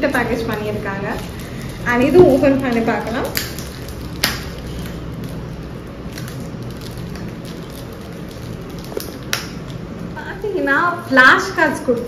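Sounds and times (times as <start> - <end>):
packaging rustling and crackling: 0.0 - 10.5.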